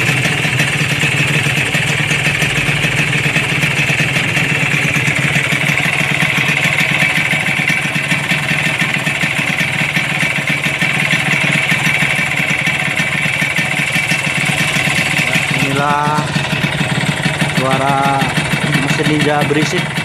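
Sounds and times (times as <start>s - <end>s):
two-stroke engine idling: 0.0s - 20.0s.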